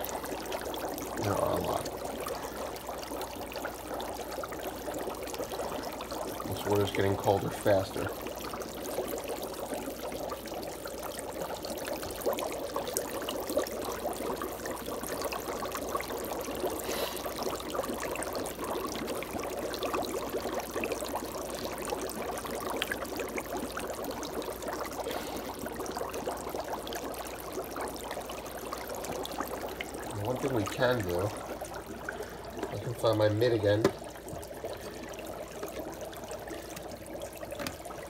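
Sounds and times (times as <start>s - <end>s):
dry ice bubbling in water: 0.0s - 38.0s.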